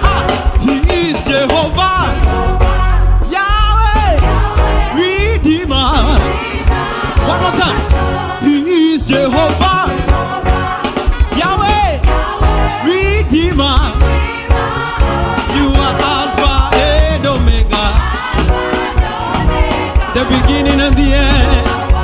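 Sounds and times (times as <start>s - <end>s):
band with heavy bass: 0.0s - 22.0s
voices singing gospel: 0.0s - 22.0s.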